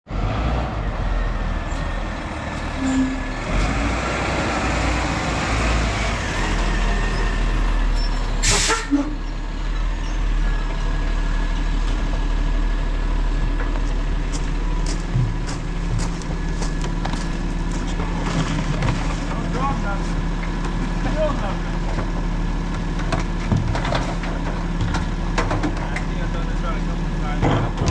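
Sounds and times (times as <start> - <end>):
garbage truck diesel engine: 0.0 - 27.9.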